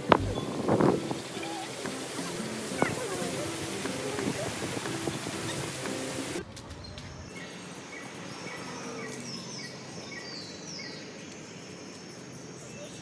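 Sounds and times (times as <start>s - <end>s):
bird chirping: 0.0s - 11.8s.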